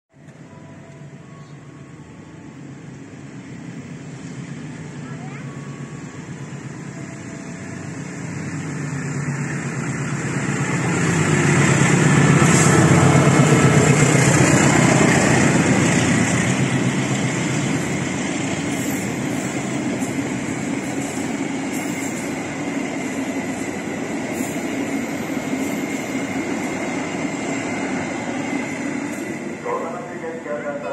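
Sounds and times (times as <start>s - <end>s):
train coaches rolling past: 0.1s - 30.9s
locomotive engine rumble: 1.0s - 30.9s.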